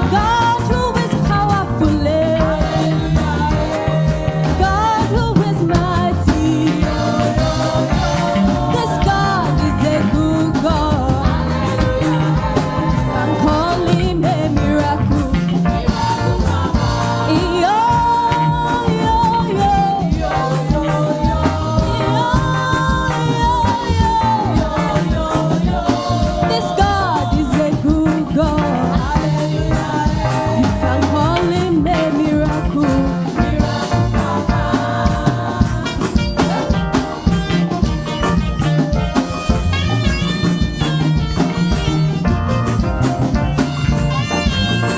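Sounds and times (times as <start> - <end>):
gospel band with singing: 0.0 - 44.9.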